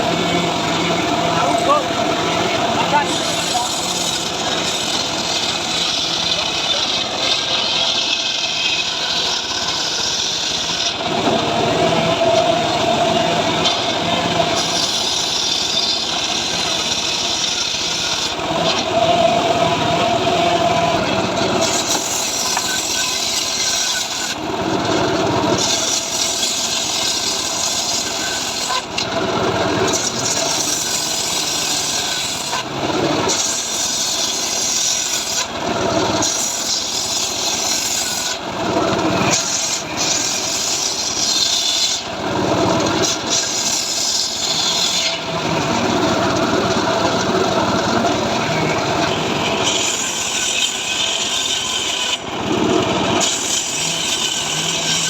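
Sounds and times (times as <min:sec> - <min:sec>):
engine-powered saw cutting wood: 0:00.0 - 0:55.0.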